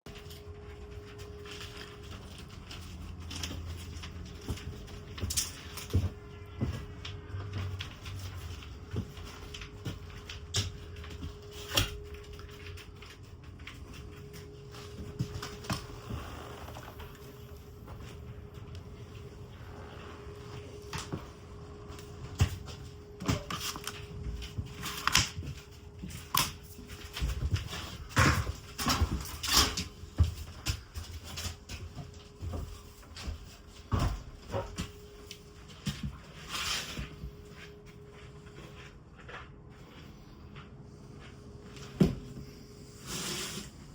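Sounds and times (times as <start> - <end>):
faint steady hum: 0.1 - 43.9.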